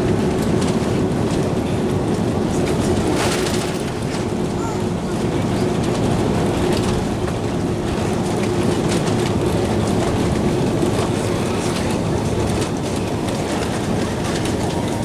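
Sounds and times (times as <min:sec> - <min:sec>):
aircraft engines rumbling: 0:00.0 - 0:15.0
wheels rolling on pavement: 0:00.0 - 0:15.0.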